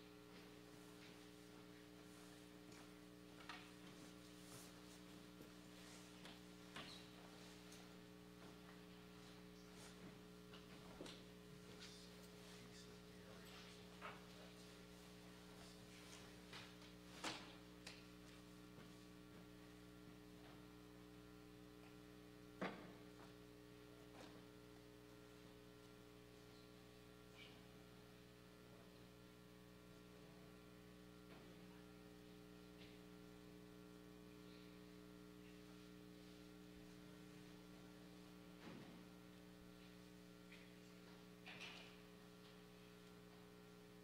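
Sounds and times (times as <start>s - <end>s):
electrical mains hum: 0.0s - 44.0s.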